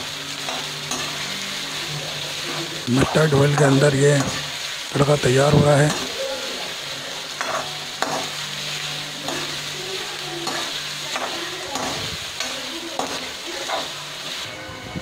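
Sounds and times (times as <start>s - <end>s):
onion sizzling in hot oil: 0.0s - 15.0s
metal spatula scraping a pan: 0.4s - 4.6s, 5.4s - 6.2s, 7.1s - 14.5s.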